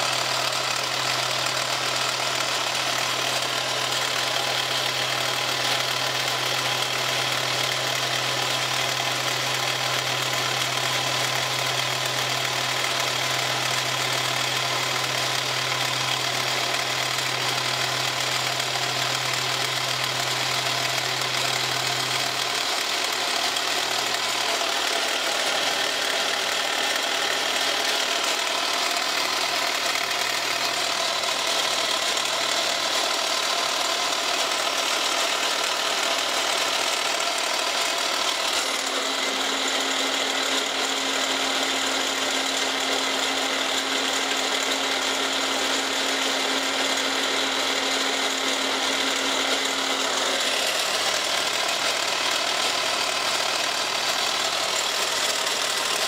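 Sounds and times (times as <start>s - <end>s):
milling machine cutting plastic: 0.0s - 56.0s.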